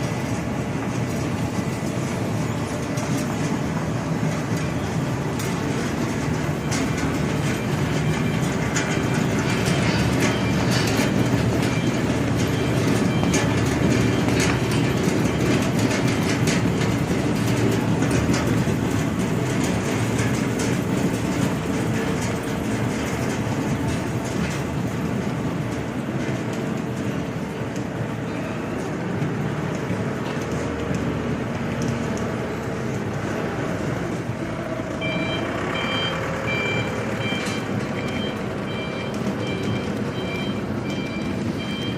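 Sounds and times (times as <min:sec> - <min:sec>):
conveyor line running: 0:00.0 - 0:41.9.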